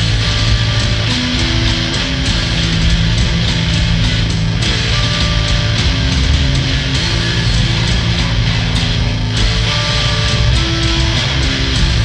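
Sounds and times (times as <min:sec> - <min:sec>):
distorted electric guitar: 0:00.0 - 0:12.0
drums with cymbal hits: 0:00.0 - 0:12.0
electric bass: 0:00.0 - 0:12.0.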